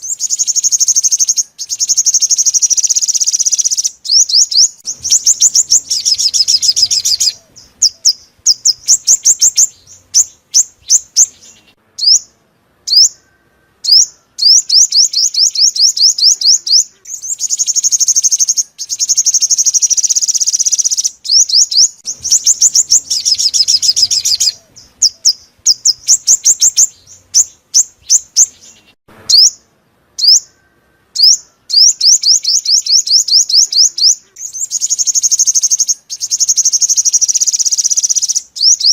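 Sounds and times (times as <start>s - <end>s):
sunbird song trills: 0.0s - 38.9s.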